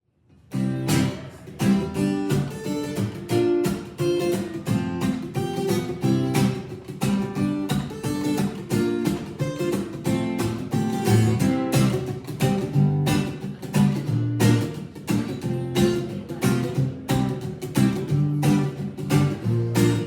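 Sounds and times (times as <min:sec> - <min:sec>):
acoustic guitar strumming: 0:00.5 - 0:20.0.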